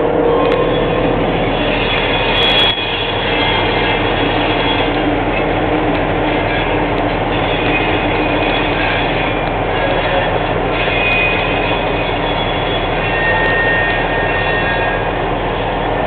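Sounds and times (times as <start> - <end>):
high wheel squeal: 0.0 - 16.0
train wheels rumbling and rattling: 0.0 - 16.0.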